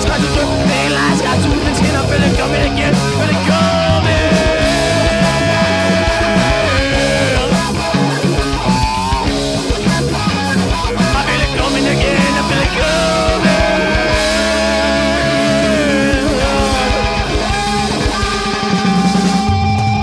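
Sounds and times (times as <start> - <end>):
punk rock band playing live: 0.0 - 20.0.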